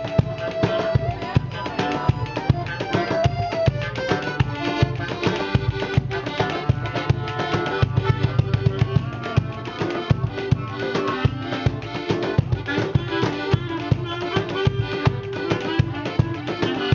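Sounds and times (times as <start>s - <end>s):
drums and percussion beat: 0.0s - 16.9s
live band playing: 0.0s - 16.9s
sustained melodic notes: 0.0s - 16.9s.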